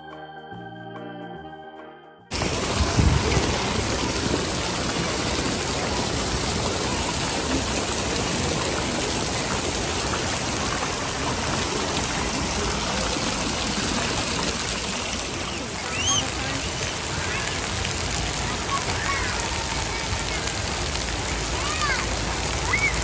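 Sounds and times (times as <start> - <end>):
water jets spraying and splashing: 2.3 - 23.0.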